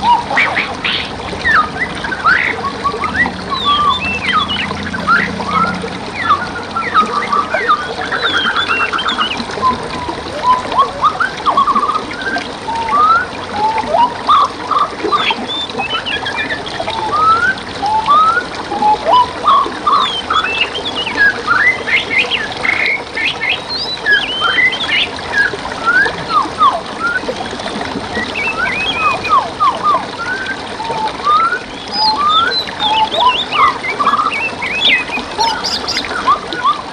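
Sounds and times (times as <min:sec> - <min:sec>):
songbirds chirping and whistling: 0:00.0 - 0:36.9
stream water rushing: 0:00.0 - 0:36.9.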